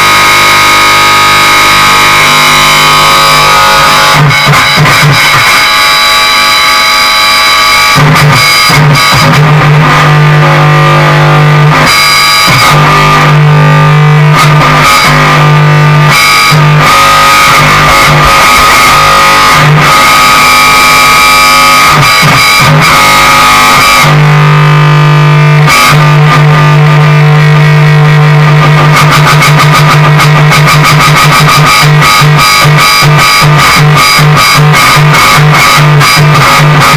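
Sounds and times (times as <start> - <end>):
distorted bass guitar drone: 0.0 - 36.9.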